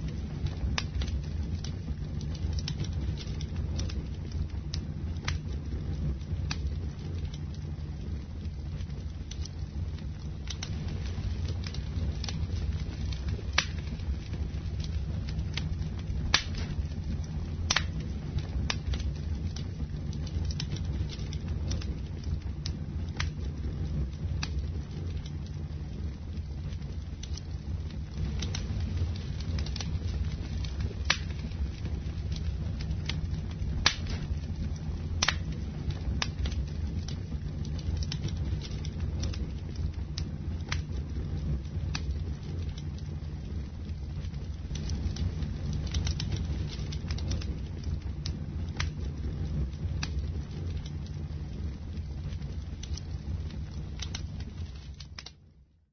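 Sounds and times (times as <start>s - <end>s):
campfire flames rumbling: 0.0s - 55.9s
fire crackling and popping: 0.0s - 55.9s.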